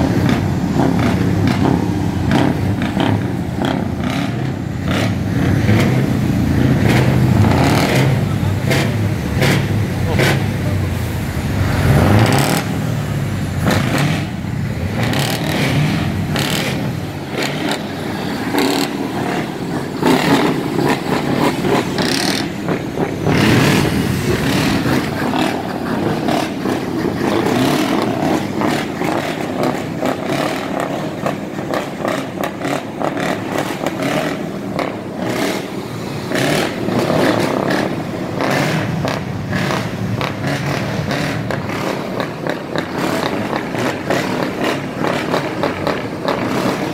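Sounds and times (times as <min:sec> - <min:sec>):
exhaust cracks: 0:00.0 - 0:46.9
truck diesel engine revving: 0:00.0 - 0:46.9.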